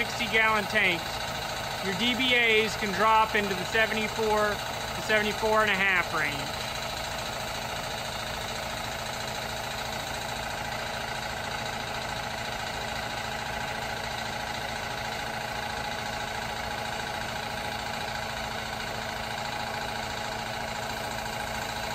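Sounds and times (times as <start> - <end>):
air compressor pump chugging: 0.0 - 21.9.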